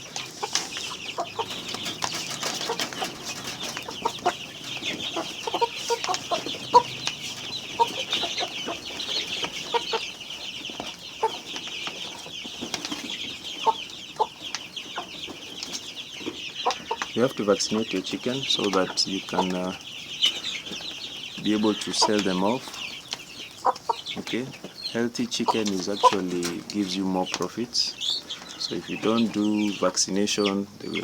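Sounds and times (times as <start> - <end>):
chickens clucking: 0.0 - 31.0
chicks peeping: 0.0 - 31.0.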